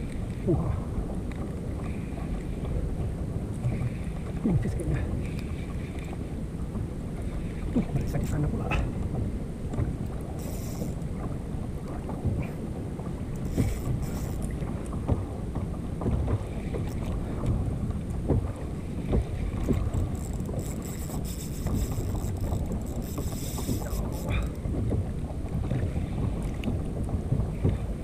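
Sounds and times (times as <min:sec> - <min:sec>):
water moving against kayak: 0:00.0 - 0:28.0
wind rumbling on microphone: 0:00.0 - 0:28.0.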